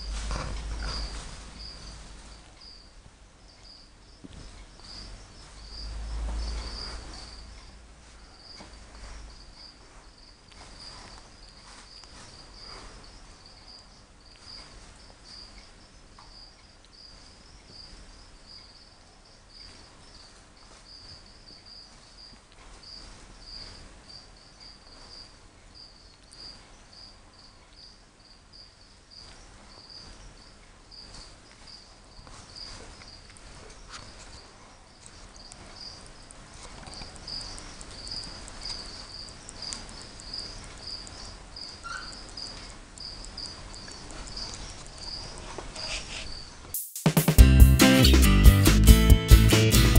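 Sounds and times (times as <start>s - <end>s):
faint rustling: 0.0s - 18.8s, 19.5s - 27.7s, 28.8s - 46.7s
cricket chirping: 0.0s - 46.9s.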